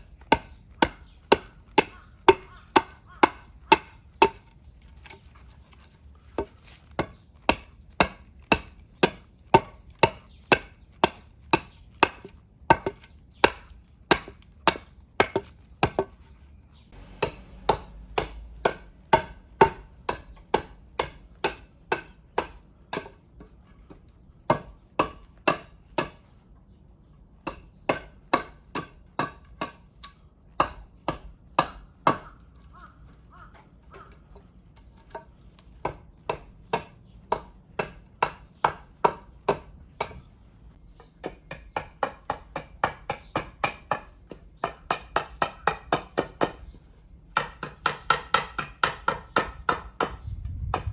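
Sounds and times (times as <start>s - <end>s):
axe chopping wood: 0.0s - 16.2s, 16.8s - 26.3s, 27.4s - 32.7s, 33.5s - 40.3s, 41.0s - 46.8s, 47.4s - 50.9s.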